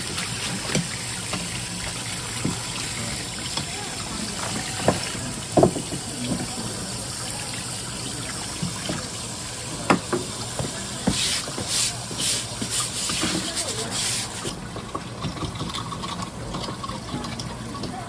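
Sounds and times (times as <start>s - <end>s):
tap water running: 0.0s - 18.0s.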